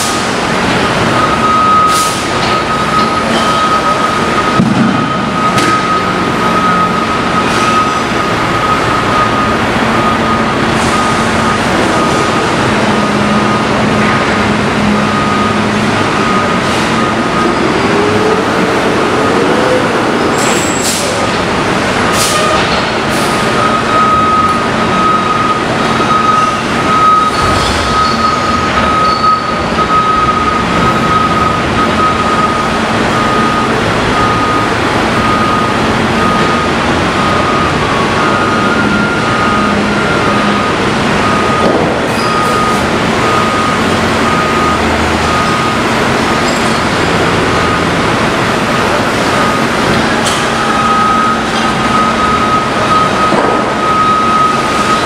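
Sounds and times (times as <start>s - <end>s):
garbage truck engine running: 0.0s - 55.0s
reversing alarm beeping: 0.0s - 55.0s.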